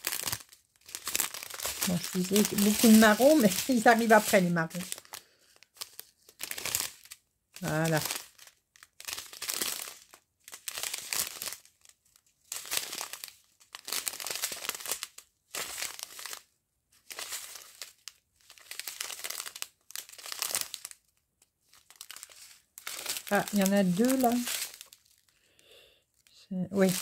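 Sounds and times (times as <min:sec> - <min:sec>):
plastic bags crinkling: 0:00.0 - 0:27.0.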